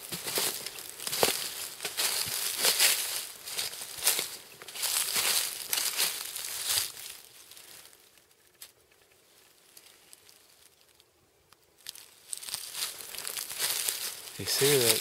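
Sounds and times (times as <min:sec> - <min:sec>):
footsteps in dry forest litter: 0:00.0 - 0:11.1, 0:11.8 - 0:15.0.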